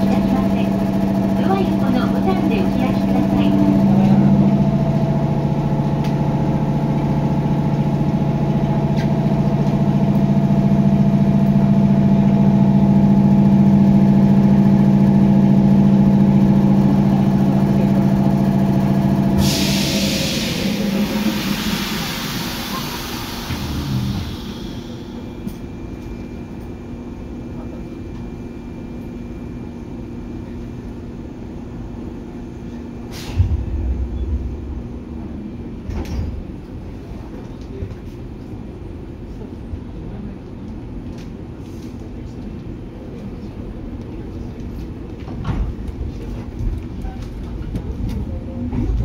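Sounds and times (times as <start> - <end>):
train hum and rumble: 0.0 - 49.0.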